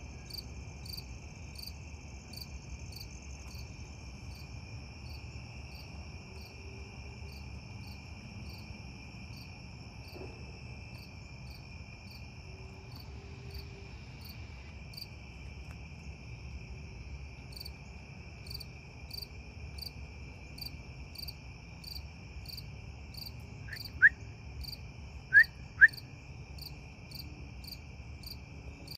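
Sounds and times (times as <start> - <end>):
crickets trilling: 0.0 - 28.9
insect chirping: 0.0 - 28.9.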